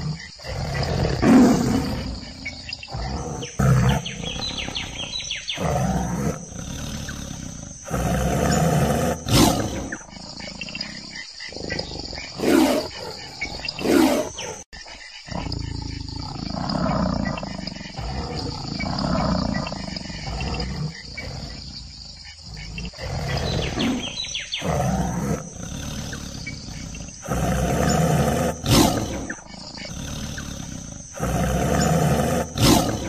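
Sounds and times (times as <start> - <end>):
tiger growling deeply: 0.0 - 33.0
tiger snarling: 0.0 - 33.0.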